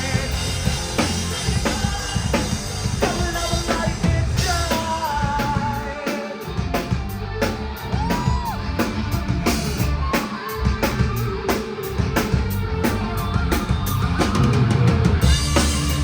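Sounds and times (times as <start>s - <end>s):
drum kit beat: 0.0s - 16.0s
electric guitar: 0.0s - 16.0s.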